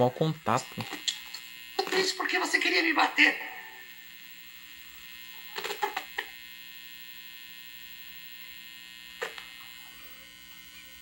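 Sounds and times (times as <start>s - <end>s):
television electric buzz: 0.0s - 11.0s.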